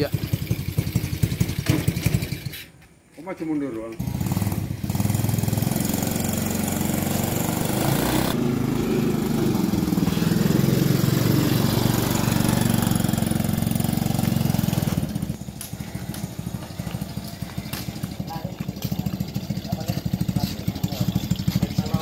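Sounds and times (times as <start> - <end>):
small engine chugging: 0.0 - 2.6, 4.0 - 22.0.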